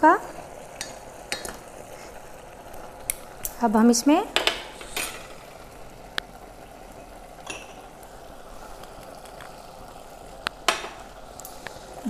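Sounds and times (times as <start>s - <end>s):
food sizzling in pot: 0.0s - 12.0s.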